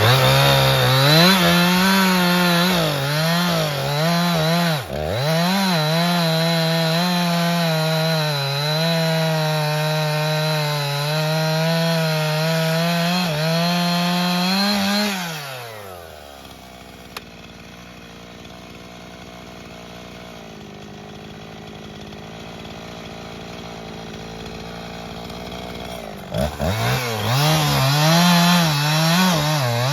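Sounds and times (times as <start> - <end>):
chainsaw cutting wood: 0.0 - 29.9.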